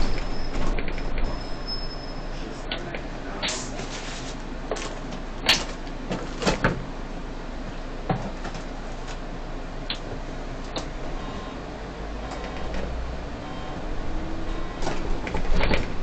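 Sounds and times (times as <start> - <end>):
bus low hum: 0.0 - 16.0.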